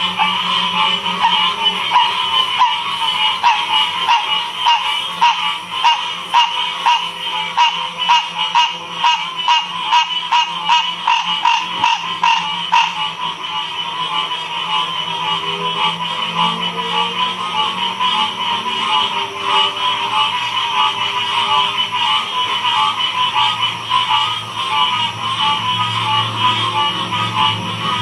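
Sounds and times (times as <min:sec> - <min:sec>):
frog calling rhythmically: 0:00.0 - 0:28.0
high-pitched frog chorus: 0:00.0 - 0:28.0.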